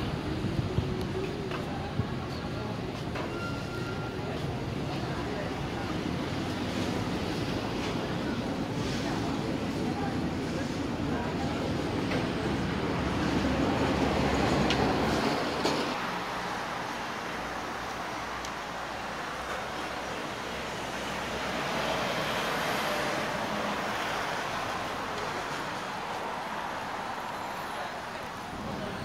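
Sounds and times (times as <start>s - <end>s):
road noise: 0.0s - 29.0s
vehicle engines humming: 4.4s - 29.0s.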